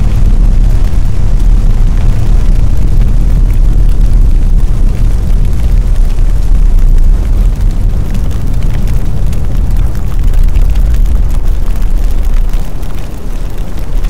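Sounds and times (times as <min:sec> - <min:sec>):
fire crackling: 0:00.0 - 0:14.0
large fire rumbling: 0:00.0 - 0:14.0.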